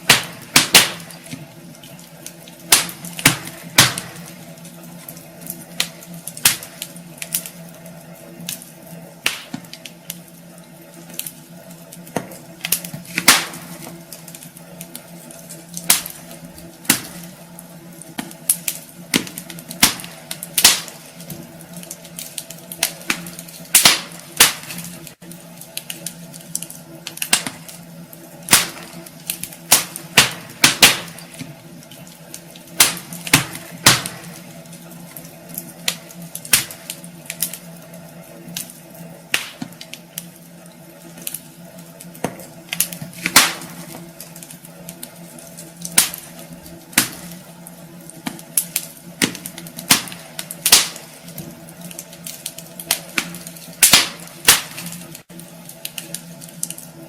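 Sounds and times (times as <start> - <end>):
steady low hum: 0.0 - 57.0
wood fire crackling and popping: 0.0 - 57.0.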